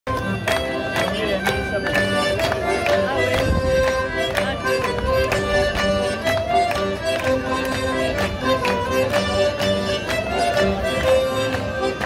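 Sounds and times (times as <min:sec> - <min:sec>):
folk band playing dance tune: 0:00.1 - 0:12.0.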